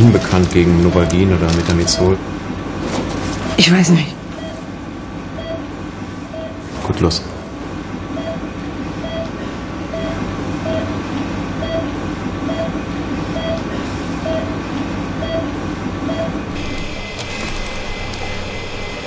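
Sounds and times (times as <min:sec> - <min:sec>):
patient monitor beeping: 0:00.0 - 0:02.7, 0:03.4 - 0:06.8, 0:07.4 - 0:19.0.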